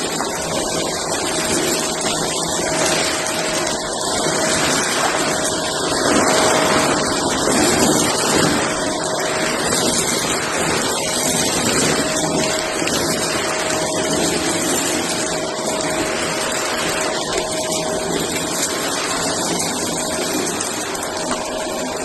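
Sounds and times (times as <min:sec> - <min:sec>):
vacuum cleaner motor whine: 0:00.0 - 0:22.0
rush of suction: 0:01.5 - 0:22.0.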